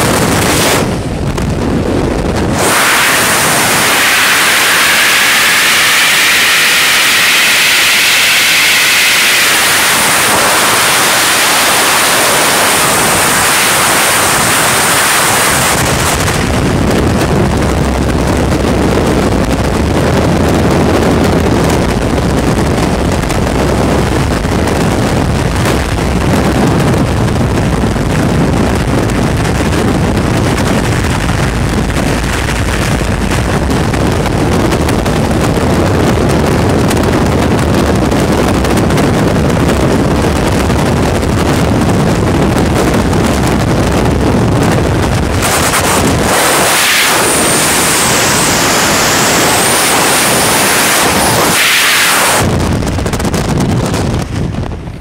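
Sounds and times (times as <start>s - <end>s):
freefall wind roaring over microphone: 0.0s - 55.0s.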